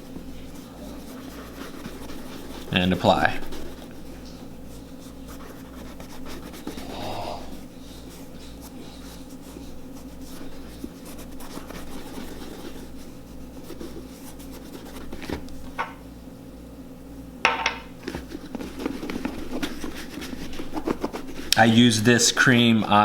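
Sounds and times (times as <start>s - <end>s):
cream rubbed into leather boot: 0.0s - 15.8s, 18.0s - 23.0s.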